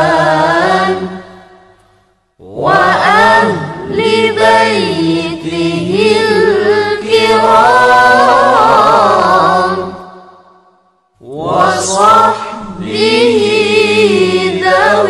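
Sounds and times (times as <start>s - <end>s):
person singing devotional song: 0.0s - 10.4s, 11.2s - 15.0s.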